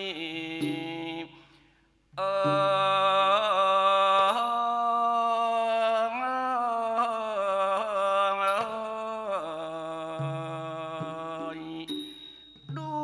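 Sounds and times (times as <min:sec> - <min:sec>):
person singing melismatic notes: 0:00.0 - 0:01.6, 0:02.2 - 0:13.0.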